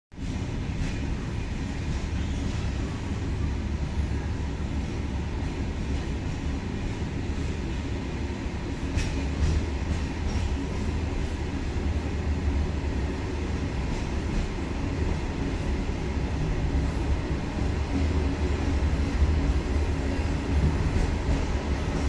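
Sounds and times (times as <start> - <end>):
train rumbling: 0.1 - 22.0.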